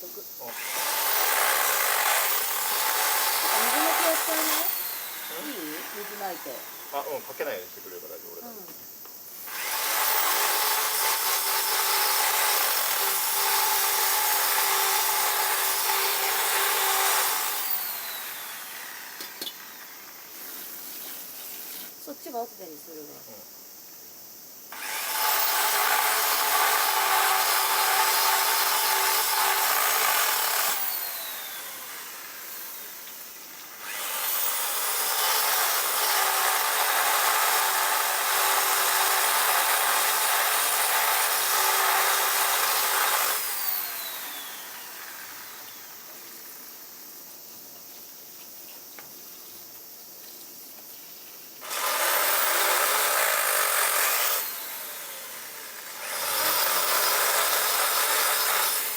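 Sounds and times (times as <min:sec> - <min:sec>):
electric power tool whirring: 0:00.5 - 0:07.6, 0:09.4 - 0:21.9, 0:24.7 - 0:46.6, 0:51.6 - 0:58.9.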